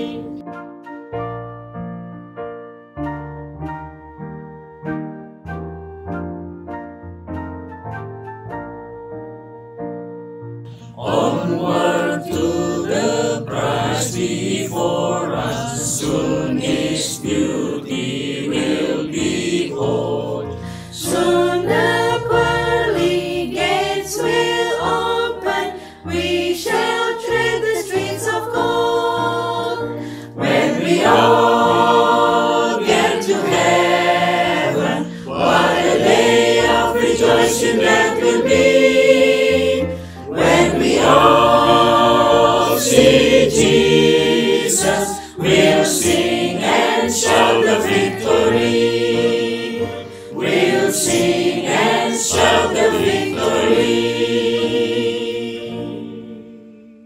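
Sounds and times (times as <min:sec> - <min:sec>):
choir singing a hymn: 0:00.0 - 0:00.4, 0:10.7 - 0:57.0.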